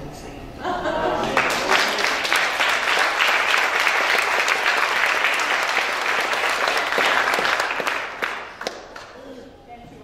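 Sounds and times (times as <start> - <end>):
crowd applauding: 1.2 - 9.2.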